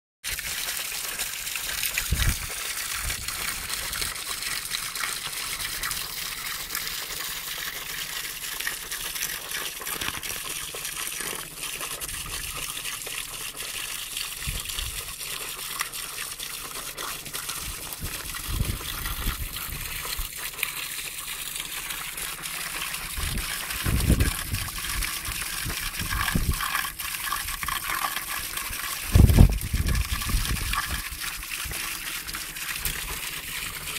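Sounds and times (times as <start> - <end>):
water splashing onto rocks: 0.2 - 7.2, 7.9 - 15.1, 15.8 - 28.3, 29.0 - 31.8.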